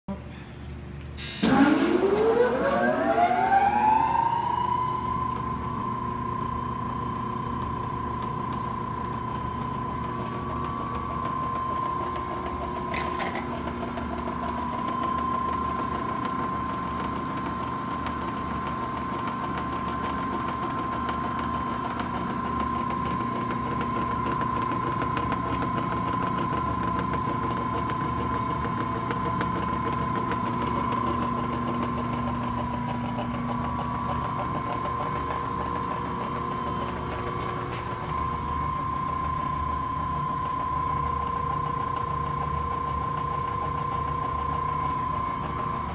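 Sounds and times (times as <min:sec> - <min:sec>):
press brake machine hum: 0:01.0 - 0:45.9
high steady whine: 0:01.1 - 0:45.9.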